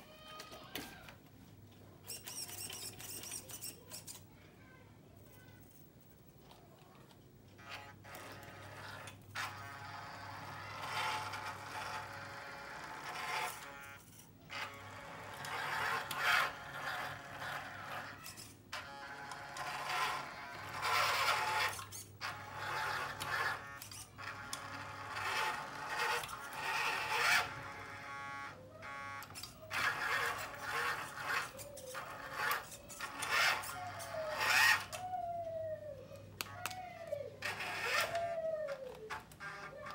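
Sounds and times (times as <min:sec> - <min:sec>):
toy car electric motor whining: 0:02.0 - 0:04.3, 0:07.6 - 0:39.9.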